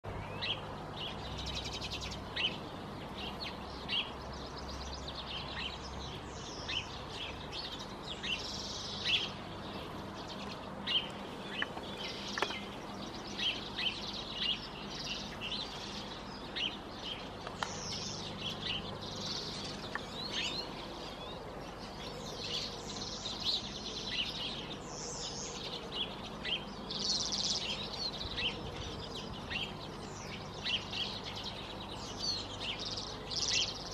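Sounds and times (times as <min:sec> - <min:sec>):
small birds twittering: 0:00.0 - 0:33.9.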